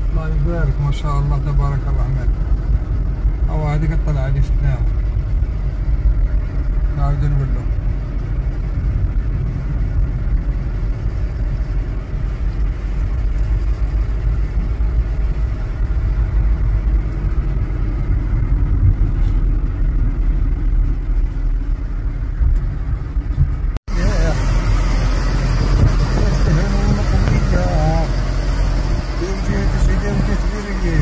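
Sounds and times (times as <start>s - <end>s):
car driving heard from inside: 0.0s - 31.0s.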